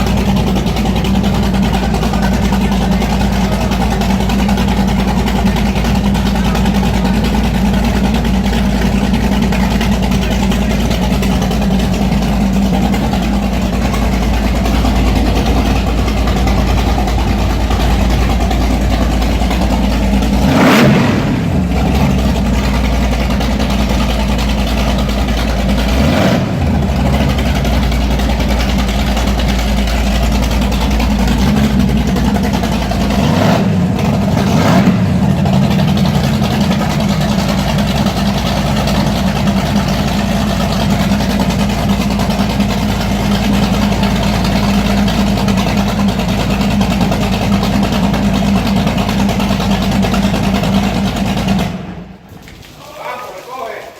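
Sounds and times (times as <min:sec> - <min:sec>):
engine revving: 0:00.0 - 0:52.2
boat engine idling: 0:00.0 - 0:53.9.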